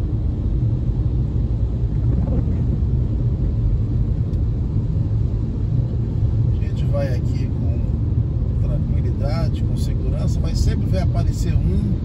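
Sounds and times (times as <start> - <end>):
car rumbling on wet road: 0.0 - 12.0.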